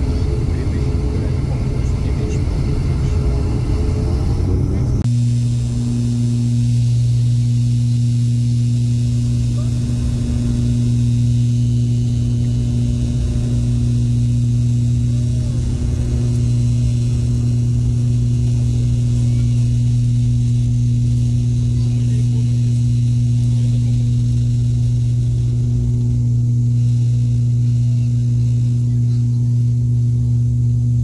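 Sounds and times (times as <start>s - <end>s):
turboprop engine drone: 0.0s - 31.0s.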